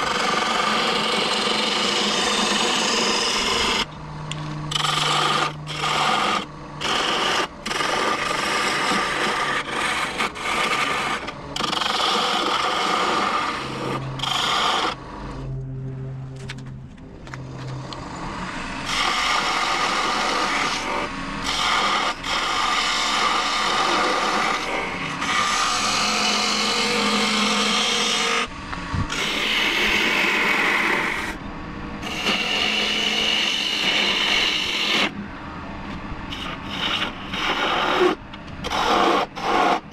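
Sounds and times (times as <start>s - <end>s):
lathe tool scraping wood: 0.0s - 3.9s, 4.7s - 15.6s, 17.6s - 31.4s, 32.0s - 35.2s, 36.3s - 39.9s.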